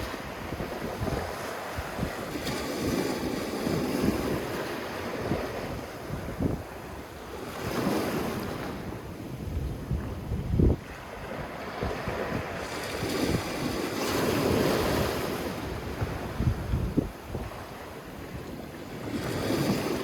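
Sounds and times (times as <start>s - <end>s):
waves washing onto shore: 0.0s - 20.0s
wind buffeting microphone: 0.0s - 20.0s.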